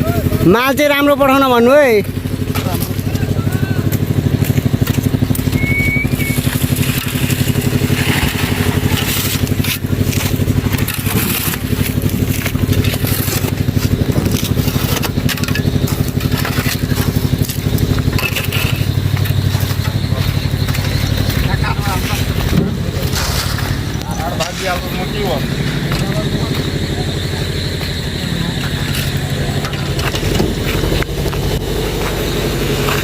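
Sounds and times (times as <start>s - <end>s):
concrete mixer engine running: 0.0s - 33.0s
concrete churning in drum: 1.8s - 33.0s.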